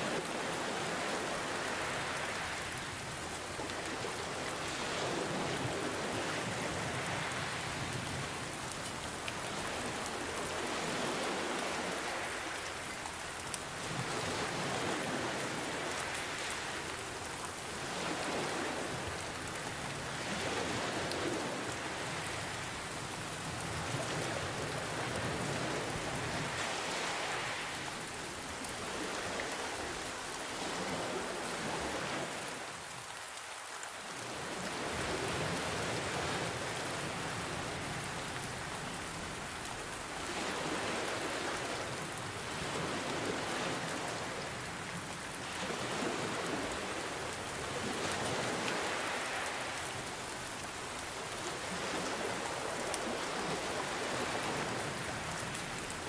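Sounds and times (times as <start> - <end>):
ocean waves: 0.0 - 56.0
steady rain: 0.0 - 56.0.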